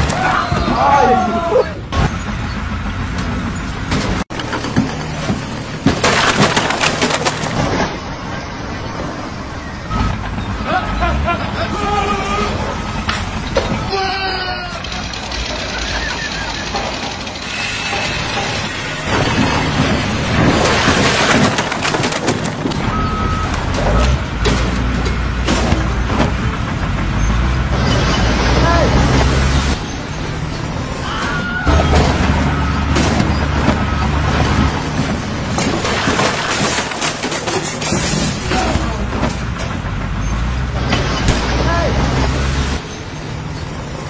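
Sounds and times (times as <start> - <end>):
heavy machine engine rumble: 0.0 - 44.0
wooden planks and poles clattering: 3.2 - 8.4, 12.2 - 42.8.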